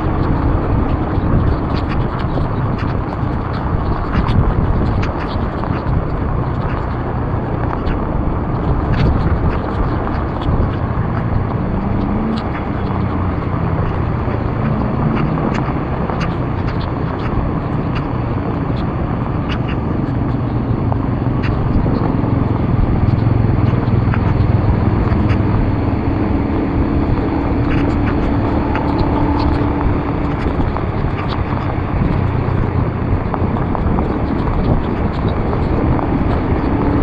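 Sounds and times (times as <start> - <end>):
small ticks: 0.0 - 25.8, 27.0 - 37.0
tyres on wet road: 0.0 - 37.0
vehicle engine hum: 0.0 - 37.0.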